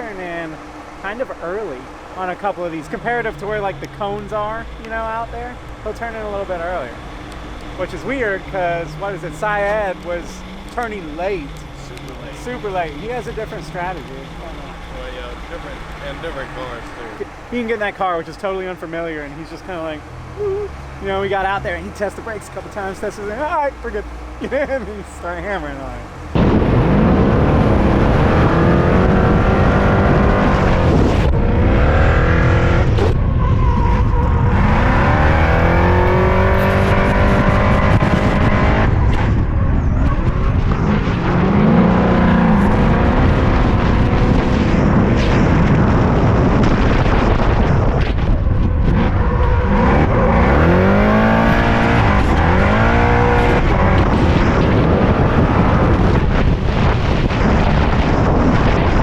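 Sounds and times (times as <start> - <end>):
car engine revving through gears: 0.0 - 17.8, 18.4 - 59.0.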